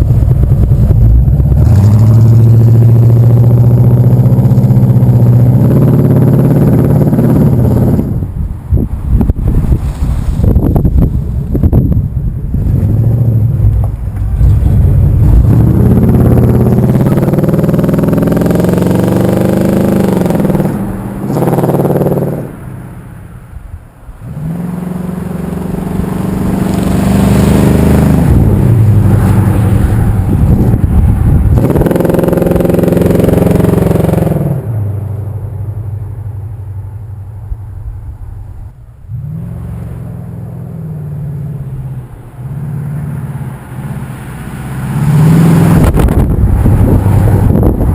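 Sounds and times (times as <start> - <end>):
car engine revving: 0.0 - 8.3, 12.4 - 23.0, 24.2 - 36.0, 39.0 - 47.9.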